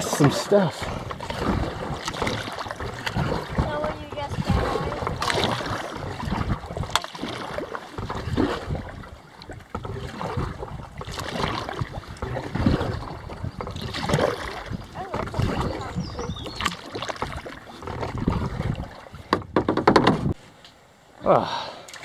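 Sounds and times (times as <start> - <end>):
water splashing and dripping: 0.0 - 19.4, 21.8 - 22.0
kayak paddle strokes in water: 0.0 - 20.4.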